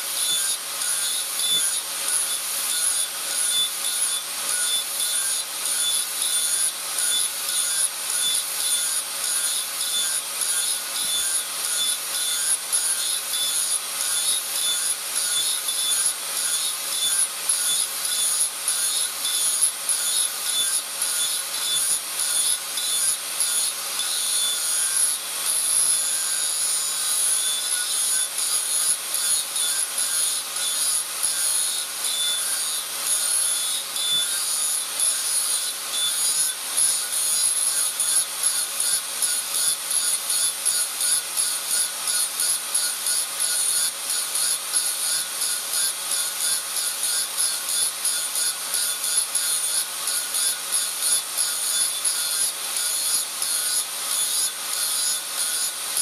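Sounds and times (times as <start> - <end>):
angle grinder grinding steel: 0.0 - 56.0.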